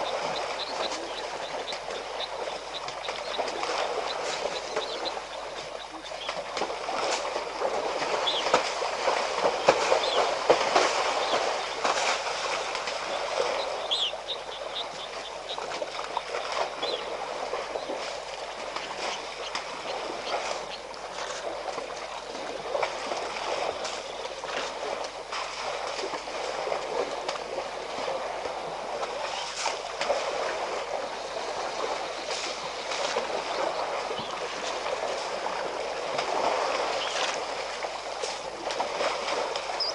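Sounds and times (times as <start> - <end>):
mud and water sloshing: 0.0 - 39.9.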